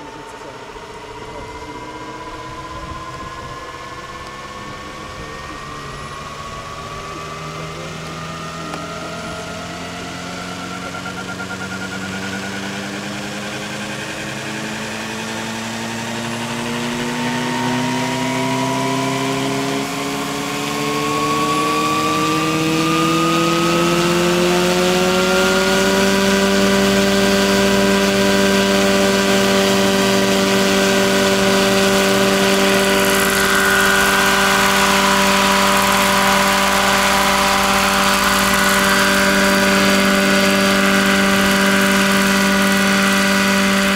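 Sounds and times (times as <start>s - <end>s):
rc helicopter motor whine: 0.0s - 43.9s.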